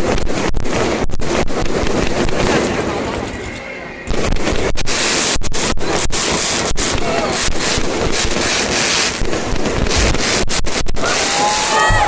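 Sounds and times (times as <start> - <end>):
fireworks crackling roar: 0.0 - 12.0.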